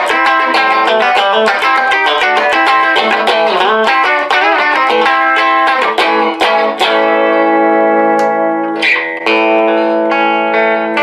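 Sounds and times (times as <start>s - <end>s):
electric guitar chords ringing: 0.0s - 11.0s.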